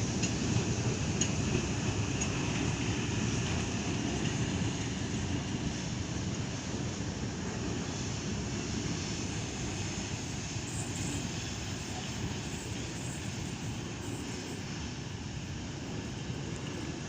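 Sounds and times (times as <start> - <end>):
train rumbling past: 0.0 - 17.0
slight hiss: 1.2 - 17.0.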